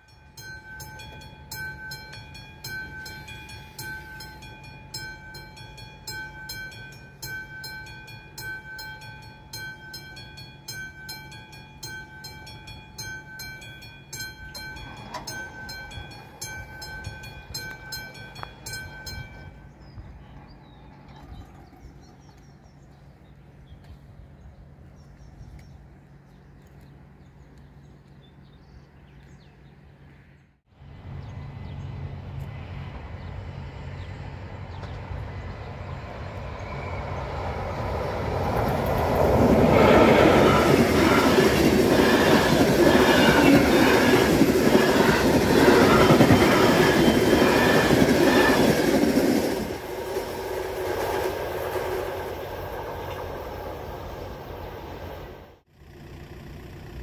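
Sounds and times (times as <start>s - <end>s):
train passing with wheel clatter: 0.0s - 55.7s.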